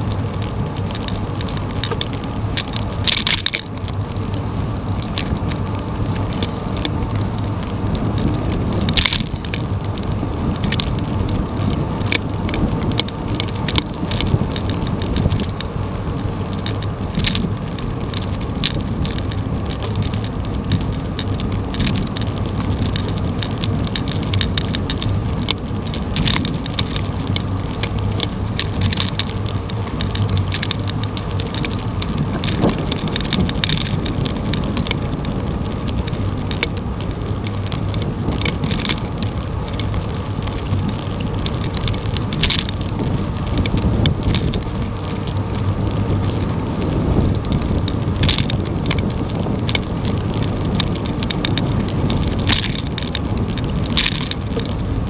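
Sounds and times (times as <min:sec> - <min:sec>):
bicycle tyres rumbling: 0:00.0 - 0:55.0
bike clicks and rattles: 0:00.0 - 0:55.0
wind on microphone: 0:00.0 - 0:55.0.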